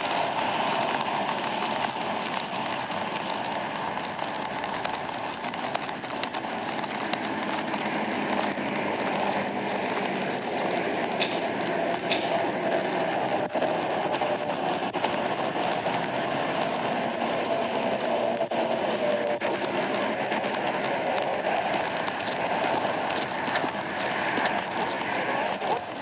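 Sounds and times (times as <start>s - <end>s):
car engine running: 0.0s - 26.0s
road and wind noise: 0.0s - 26.0s.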